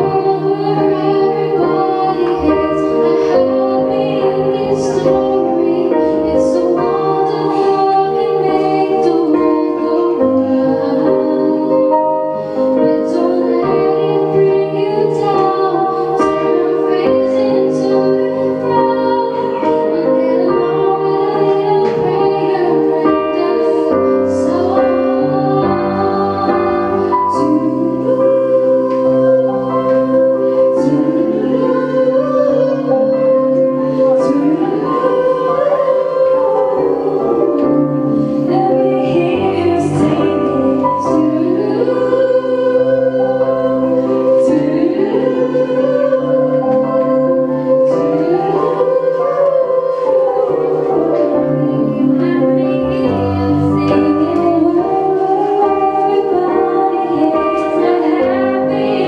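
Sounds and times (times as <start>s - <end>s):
piano accompaniment: 0.0s - 59.0s
woman singing: 0.0s - 59.0s.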